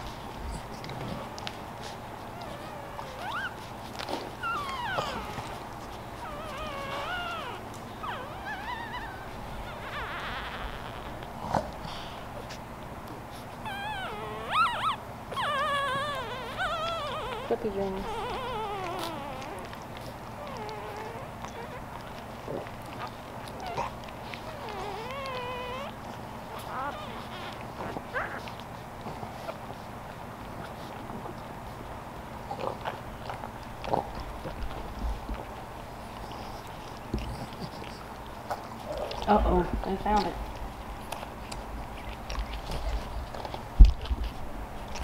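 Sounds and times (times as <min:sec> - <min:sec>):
dog licking puppies: 0:00.0 - 0:45.0
puppies squeaking and whimpering: 0:00.0 - 0:45.0.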